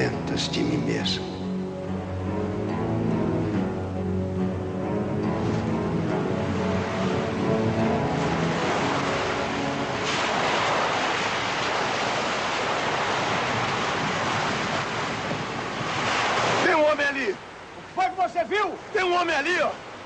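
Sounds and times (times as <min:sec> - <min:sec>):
sea waves washing: 0:00.0 - 0:20.0
wind: 0:00.0 - 0:20.0.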